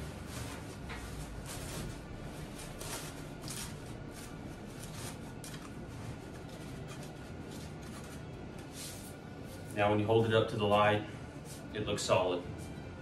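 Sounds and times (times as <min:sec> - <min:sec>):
paper towel rustling and crinkling: 0:00.0 - 0:12.8.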